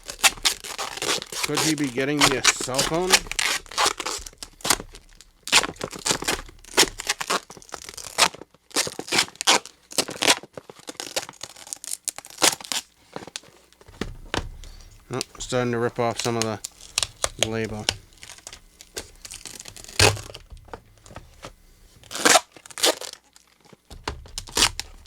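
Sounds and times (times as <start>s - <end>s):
tape and paper ripping: 0.0s - 13.4s, 15.1s - 21.2s, 22.0s - 25.0s.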